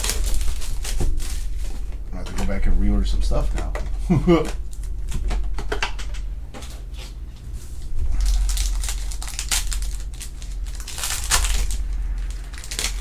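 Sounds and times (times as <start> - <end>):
packaging crinkling and tearing: 0.0 - 2.6, 3.4 - 13.0.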